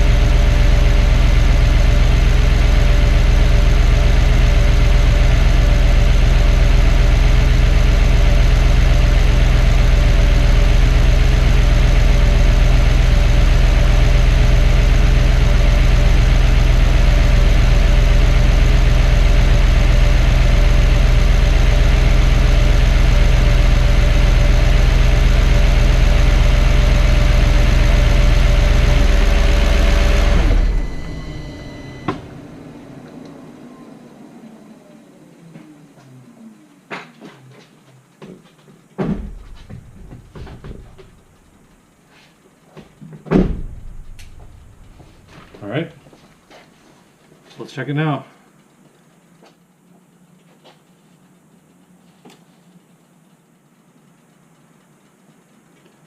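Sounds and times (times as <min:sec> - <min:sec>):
car engine idling: 0:00.0 - 0:42.0, 0:42.7 - 0:46.3.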